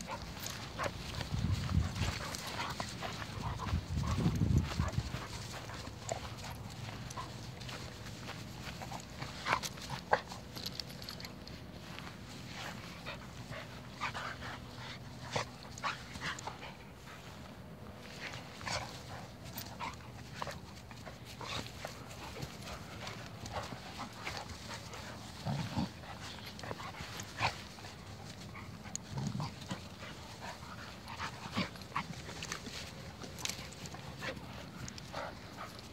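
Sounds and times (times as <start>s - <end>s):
dogs scuffling on grass: 0.0s - 35.9s.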